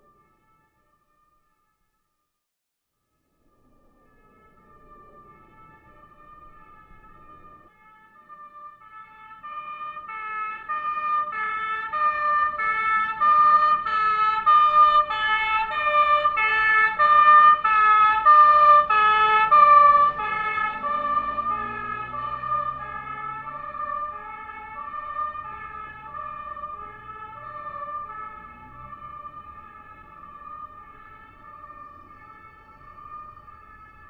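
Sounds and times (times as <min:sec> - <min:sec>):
two-tone emergency siren: 0:00.0 - 0:02.4, 0:03.0 - 0:34.0
low vehicle rumble: 0:03.4 - 0:34.0.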